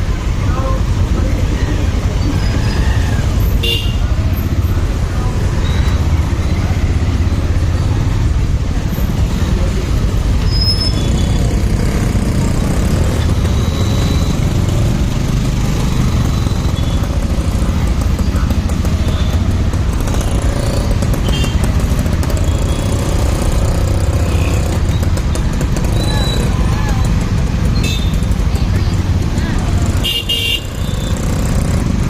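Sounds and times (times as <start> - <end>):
motorcycle engine rumble: 0.0 - 32.0.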